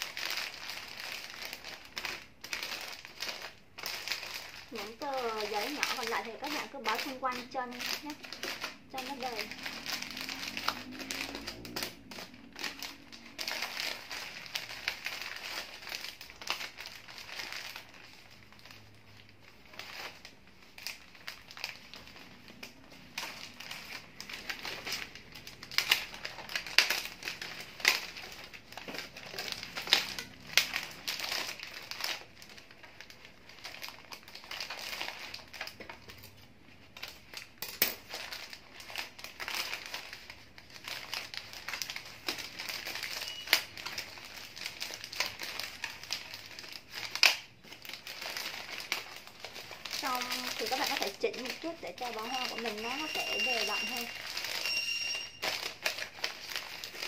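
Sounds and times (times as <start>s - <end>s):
wrapping paper crinkling: 0.0s - 57.0s.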